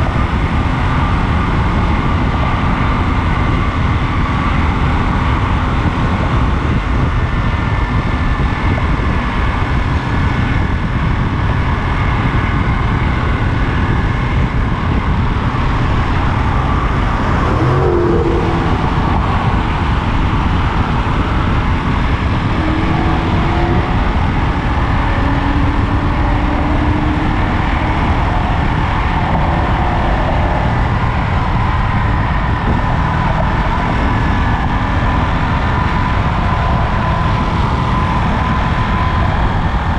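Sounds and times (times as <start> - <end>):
rushing wind noise: 0.0 - 39.9.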